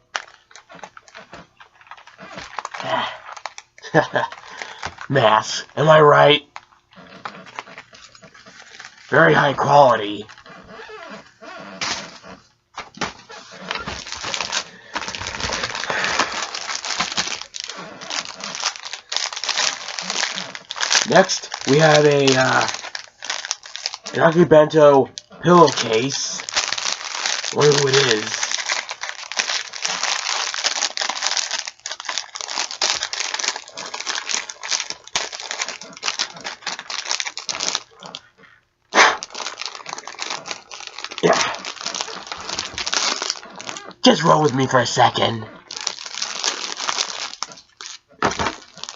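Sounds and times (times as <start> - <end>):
plastic packaging crinkling: 0.0 - 48.9.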